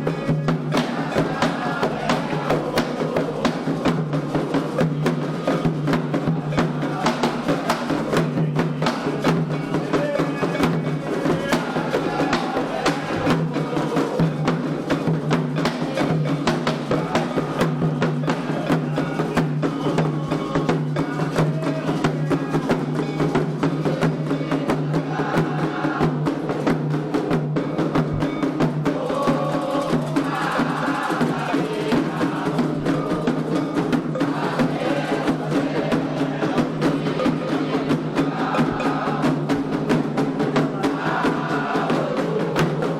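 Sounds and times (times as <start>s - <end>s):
hand drums playing: 0.0s - 42.9s.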